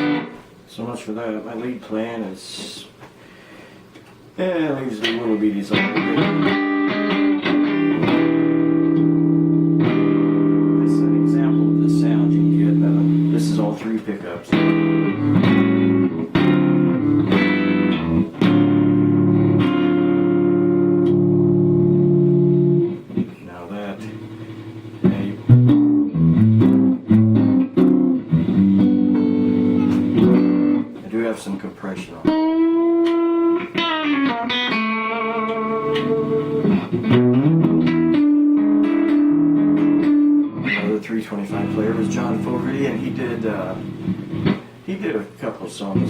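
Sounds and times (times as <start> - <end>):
electric guitar strumming chords: 0.0 - 0.5, 5.0 - 31.0, 32.1 - 45.0.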